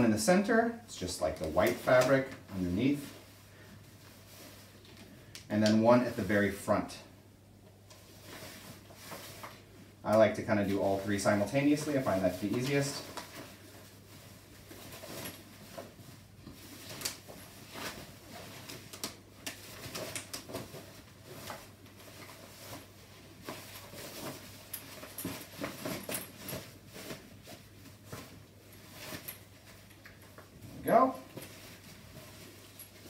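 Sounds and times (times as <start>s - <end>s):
fabric rustling: 1.2s - 6.8s, 7.9s - 33.0s.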